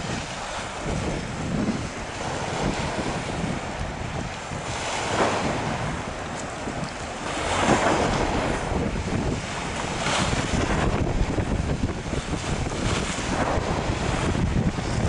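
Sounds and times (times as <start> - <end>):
sea water washing against stone: 0.0 - 15.0
wind buffeting microphone: 0.0 - 15.0.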